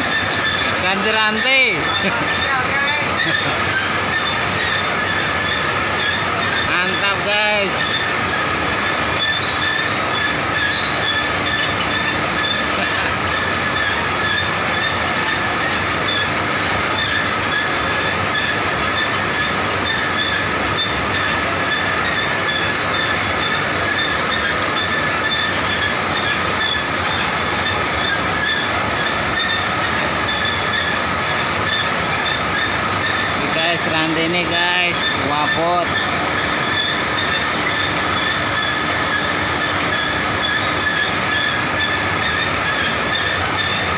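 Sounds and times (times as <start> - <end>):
high squealing tones: 0.0 - 43.9
chain conveyor metallic rattle: 0.1 - 43.9.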